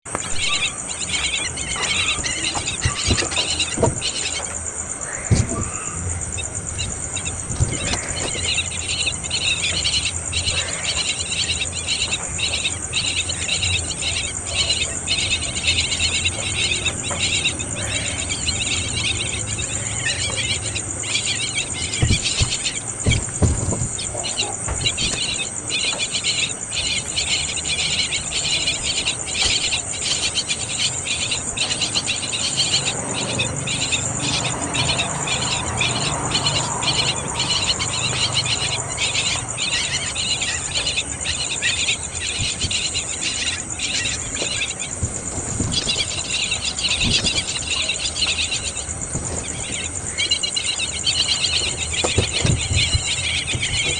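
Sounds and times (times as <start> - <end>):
choppy insect chirring: 0.1 - 53.9
insects trilling high: 0.1 - 53.9.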